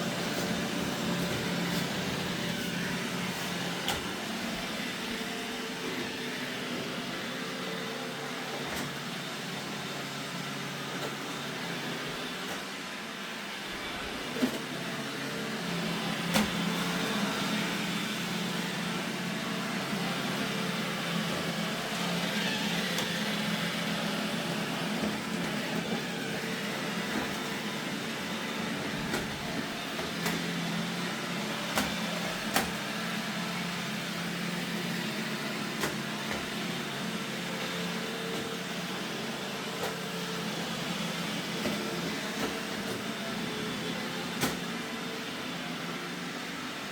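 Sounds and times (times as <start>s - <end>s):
robot vacuum cleaner humming: 0.0s - 46.9s.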